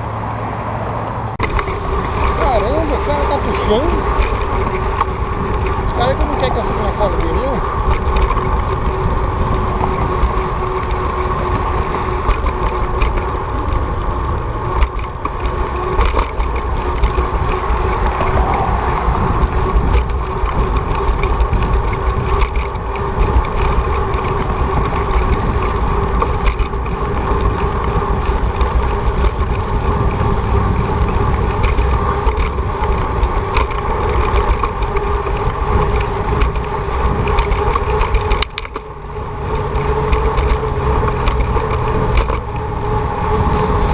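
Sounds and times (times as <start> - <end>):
wind buffeting microphone: 0.0 - 43.9
steady whine: 1.3 - 43.9.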